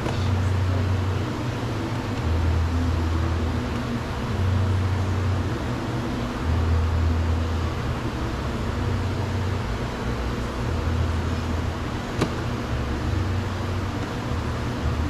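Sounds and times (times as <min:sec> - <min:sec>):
low mechanical hum with hiss: 0:00.0 - 0:15.0.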